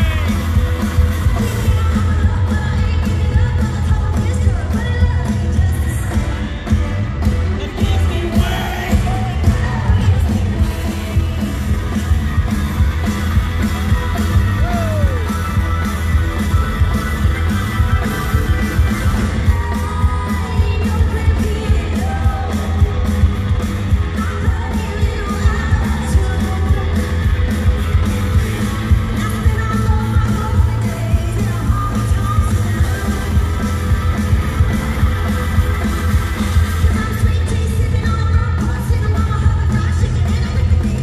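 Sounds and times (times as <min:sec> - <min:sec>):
woman singing: 0:00.0 - 0:12.5, 0:18.8 - 0:35.2, 0:35.8 - 0:41.0
drums beating: 0:00.0 - 0:41.0
electric guitars: 0:00.0 - 0:41.0.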